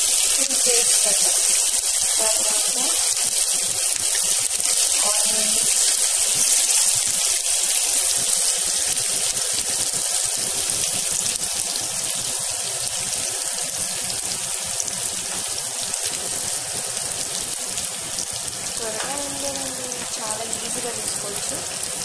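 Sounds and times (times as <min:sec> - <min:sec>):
oil sizzling in frying pan: 0:00.0 - 0:22.0.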